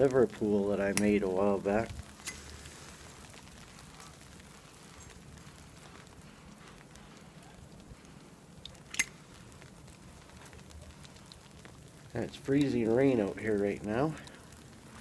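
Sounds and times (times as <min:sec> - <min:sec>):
freezing rain falling: 0:00.0 - 0:15.0
pipe crackle and hiss: 0:00.0 - 0:15.0.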